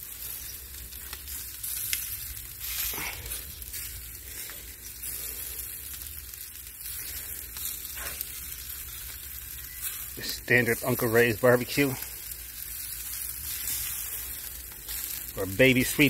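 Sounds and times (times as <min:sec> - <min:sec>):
chicken sizzling on grill: 0:00.0 - 0:16.0.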